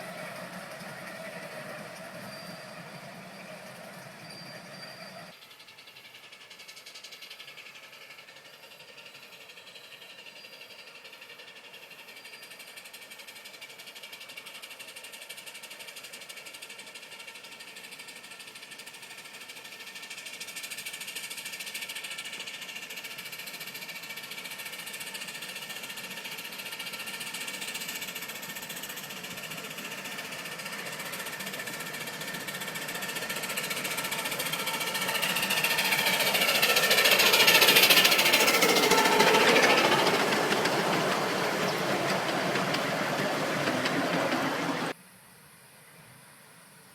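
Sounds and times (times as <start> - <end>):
steam locomotive chuffing: 0.0 - 45.0.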